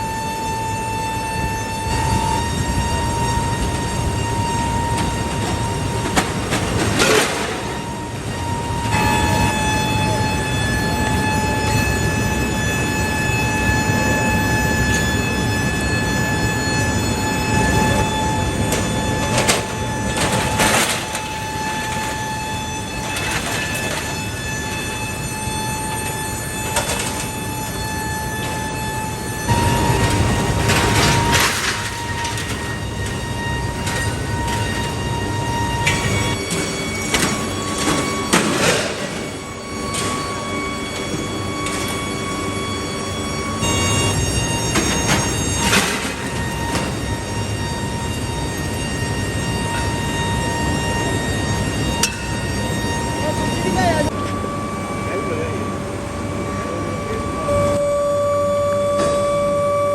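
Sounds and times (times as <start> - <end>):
high machine whine: 0.0 - 59.9
machinery rumble: 0.0 - 59.9.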